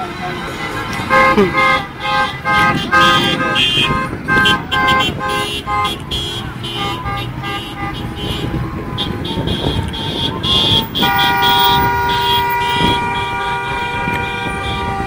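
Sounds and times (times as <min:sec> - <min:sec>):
car horns honking: 0:00.0 - 0:15.0
long horn blast: 0:00.0 - 0:15.0.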